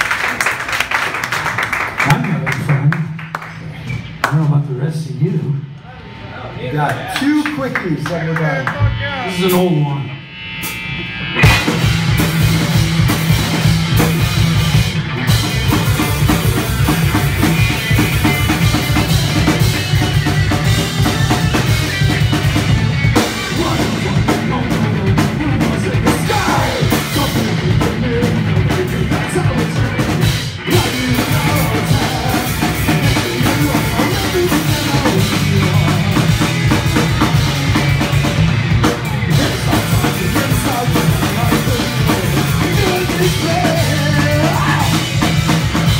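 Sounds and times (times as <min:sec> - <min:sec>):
electric bass: 0:02.1 - 0:45.9
distorted electric guitar: 0:05.5 - 0:45.9
drum kit: 0:07.4 - 0:45.9.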